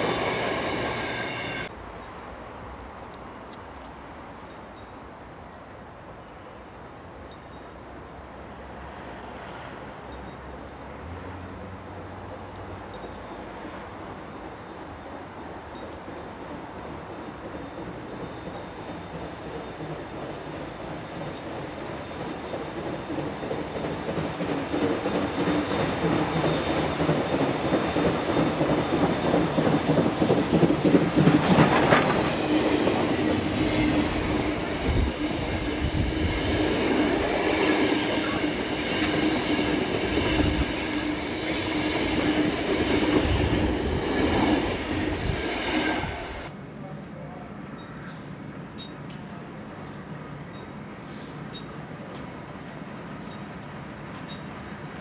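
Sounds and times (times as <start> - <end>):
steam locomotive passing: 0.0 - 55.0.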